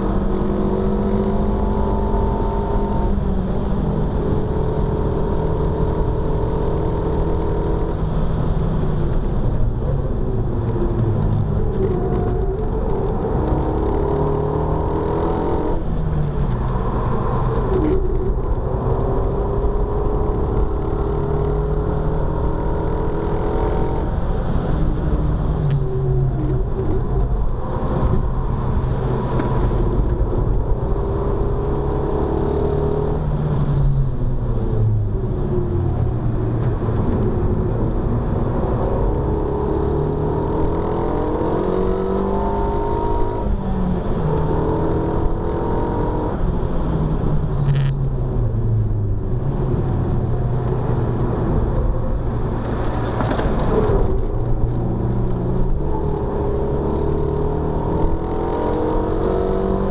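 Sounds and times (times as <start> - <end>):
car engine revving: 0.0 - 59.9
road and tyre noise: 0.0 - 59.9.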